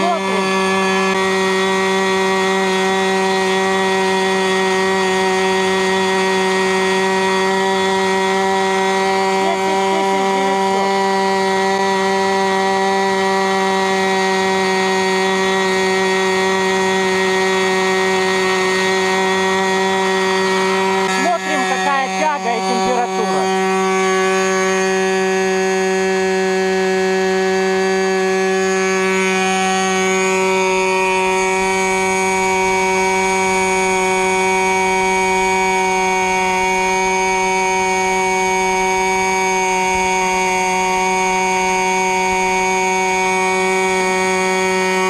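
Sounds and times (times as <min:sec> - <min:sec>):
model aircraft engine drone: 0:00.0 - 0:45.0.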